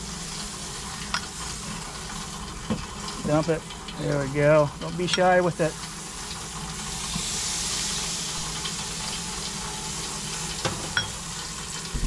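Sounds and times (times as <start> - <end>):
butter sizzling on a hot grill: 0.0 - 12.0.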